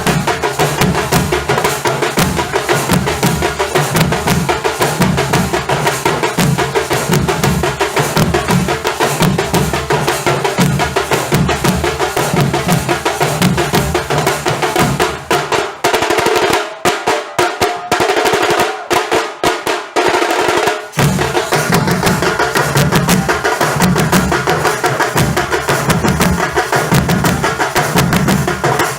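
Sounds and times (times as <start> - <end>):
fast snare drum rolls: 0.0 - 28.9
heavy drum strokes: 0.0 - 28.9.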